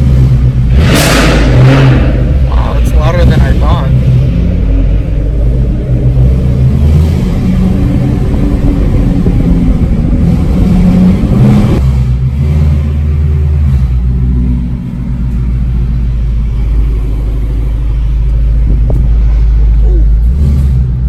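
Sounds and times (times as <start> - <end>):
car engine rumbling from cabin: 0.0 - 21.0.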